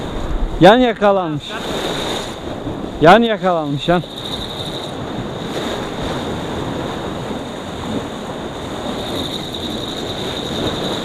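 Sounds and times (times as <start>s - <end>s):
sea washing against rocks: 0.0s - 11.0s
wind on microphone: 0.0s - 11.0s.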